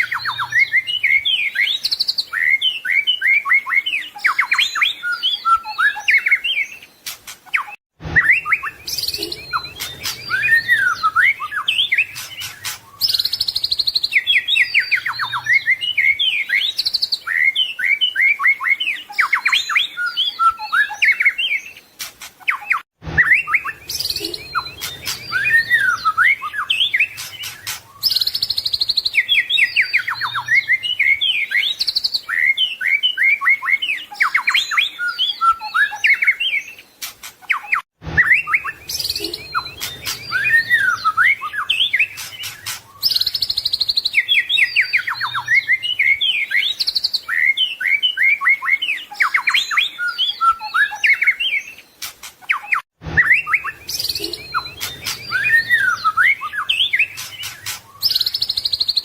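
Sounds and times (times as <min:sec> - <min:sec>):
songbird singing whistled phrases: 0:00.0 - 0:59.0.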